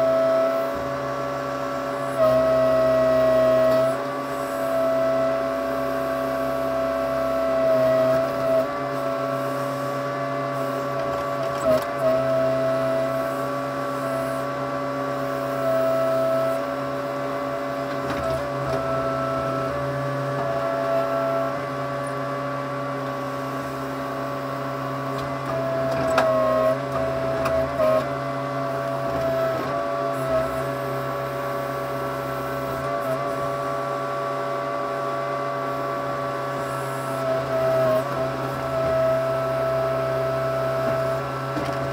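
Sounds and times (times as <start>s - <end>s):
backhoe engine running: 0.0s - 41.9s.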